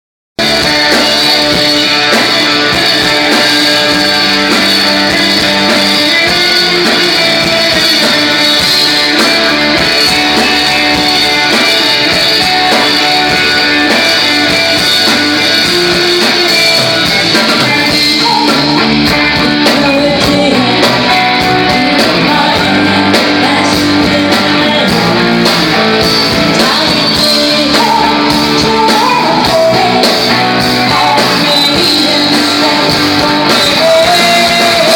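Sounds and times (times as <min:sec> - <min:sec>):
live guitar-led rock music: 0:00.4 - 0:34.9
person singing: 0:00.4 - 0:34.9.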